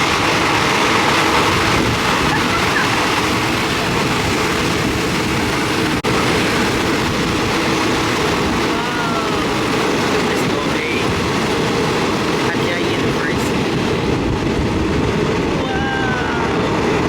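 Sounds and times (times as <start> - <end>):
train running on rails: 0.0 - 17.0.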